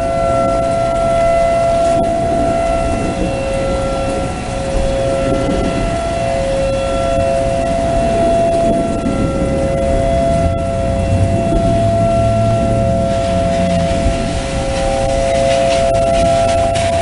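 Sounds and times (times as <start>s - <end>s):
low rumbling noise: 0.0s - 17.0s
two-pitch warning siren: 0.0s - 17.0s.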